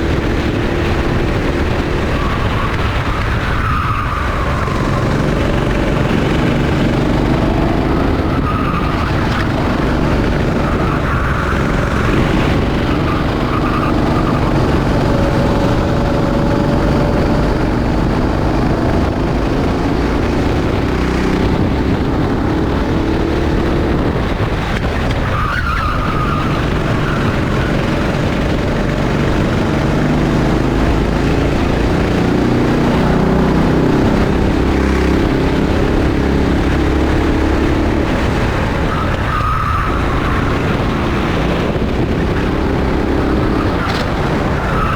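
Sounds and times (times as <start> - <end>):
kart engine running hard: 0.0 - 44.9.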